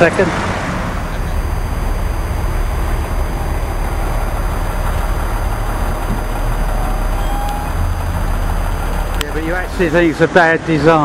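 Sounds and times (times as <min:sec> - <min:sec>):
bus engine idling: 0:00.0 - 0:10.6
stopped traffic noise: 0:00.0 - 0:11.0.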